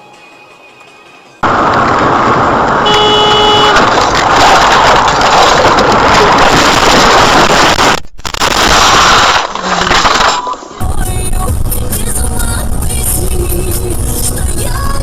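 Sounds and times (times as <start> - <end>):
vehicle road and wind noise: 0.5 - 15.0.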